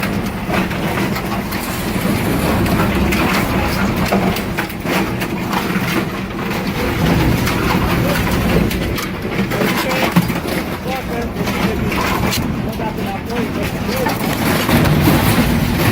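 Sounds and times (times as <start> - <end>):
low motor hum: 0.0 - 15.9
machinery clattering and knocking: 0.0 - 15.9.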